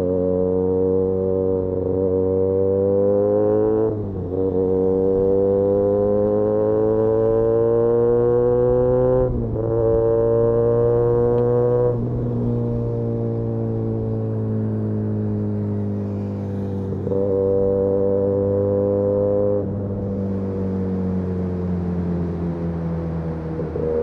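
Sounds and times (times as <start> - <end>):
motorcycle engine and exhaust: 0.0 - 24.0.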